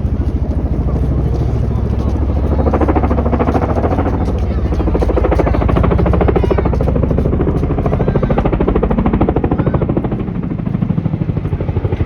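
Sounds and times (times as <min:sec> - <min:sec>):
helicopter engine: 0:00.0 - 0:12.0
helicopter rotors beating: 0:00.0 - 0:12.0.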